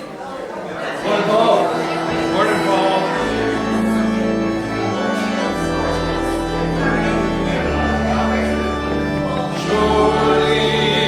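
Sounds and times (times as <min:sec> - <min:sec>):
organ playing held chords: 0:00.9 - 0:11.0
organ bass pedal notes: 0:01.4 - 0:11.0.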